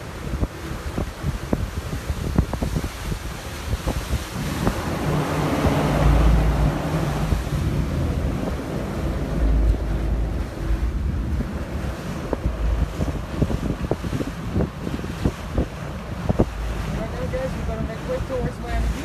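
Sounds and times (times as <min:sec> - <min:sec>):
low boat engine drone: 0:00.0 - 0:19.0
water rushing past boat: 0:00.0 - 0:19.0
wind buffeting microphone: 0:00.0 - 0:19.0.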